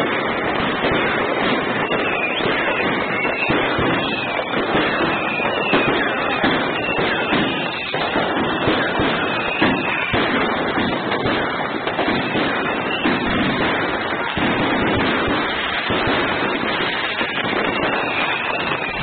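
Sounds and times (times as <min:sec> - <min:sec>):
faint firework whistles: 0:00.0 - 0:19.0
fireworks crackling and banging: 0:00.0 - 0:19.0.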